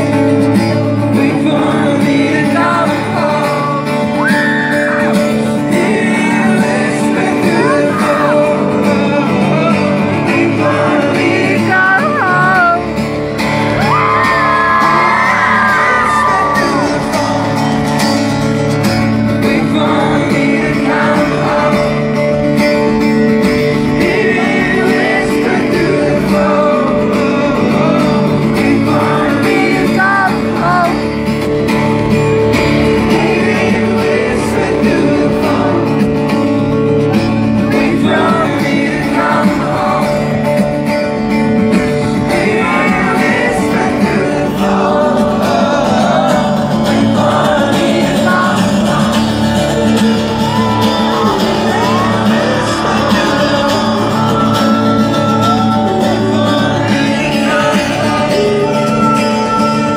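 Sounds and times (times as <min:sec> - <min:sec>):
acoustic guitar: 0:00.0 - 0:59.9
man singing a ballad: 0:00.7 - 0:12.9, 0:13.8 - 0:17.9, 0:19.4 - 0:22.5, 0:23.8 - 0:31.1, 0:32.8 - 0:36.6, 0:37.6 - 0:40.8, 0:41.6 - 0:59.9.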